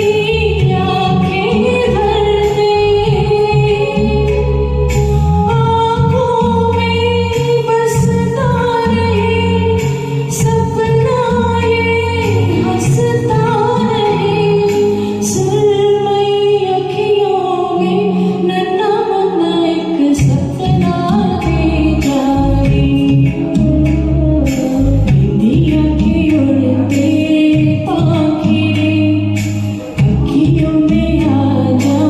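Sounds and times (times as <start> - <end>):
backing track with bass and percussion: 0.0 - 17.2, 19.9 - 32.0
woman singing slow song: 0.0 - 32.0.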